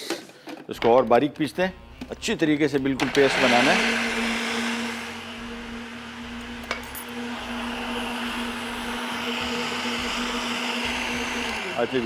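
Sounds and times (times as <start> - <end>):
blender motor running: 1.8 - 12.0.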